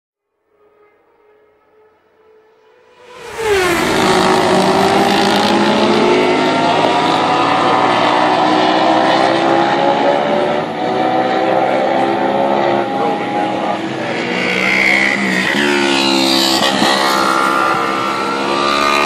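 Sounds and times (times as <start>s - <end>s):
motorcycle engines at speed: 0.8s - 19.0s.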